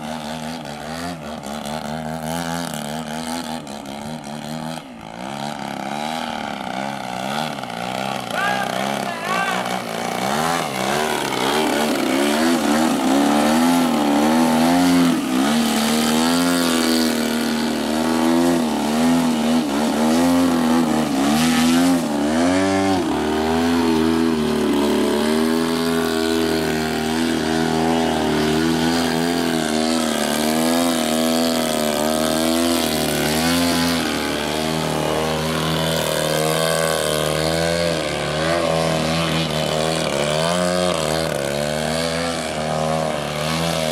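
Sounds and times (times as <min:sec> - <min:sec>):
model airplane engine in flight: 0:00.0 - 0:43.9.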